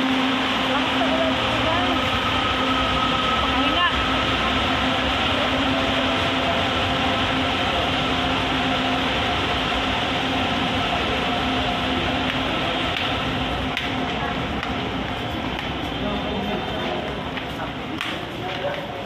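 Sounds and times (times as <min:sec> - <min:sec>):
train humming with held tones: 0:00.0 - 0:19.0.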